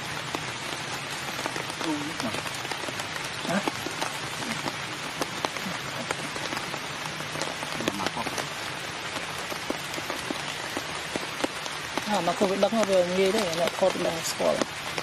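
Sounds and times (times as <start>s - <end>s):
rain falling on leaves: 0.0s - 15.0s.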